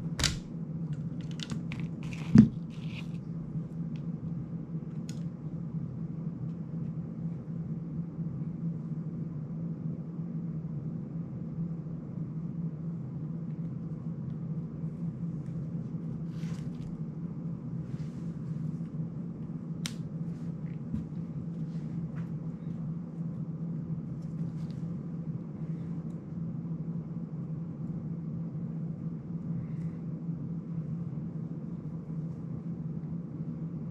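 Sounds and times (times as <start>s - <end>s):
room noise hum: 0.0s - 33.9s.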